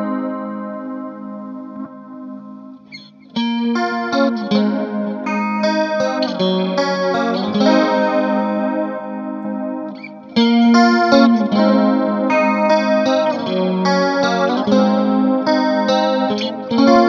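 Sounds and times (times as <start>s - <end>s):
clean electric guitar chords: 0.0s - 17.0s.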